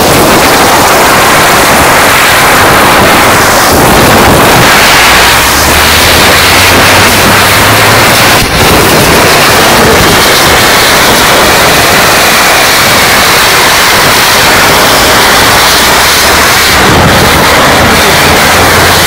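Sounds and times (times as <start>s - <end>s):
firework hissing: 0.0s - 19.0s.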